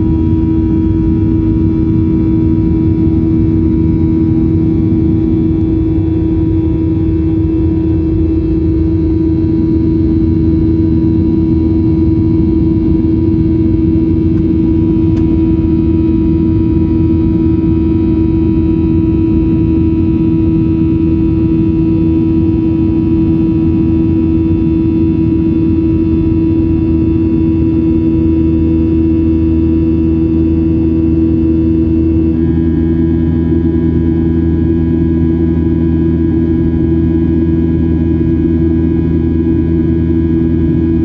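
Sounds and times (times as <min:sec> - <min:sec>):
airplane cabin engine drone: 0:00.0 - 0:41.0.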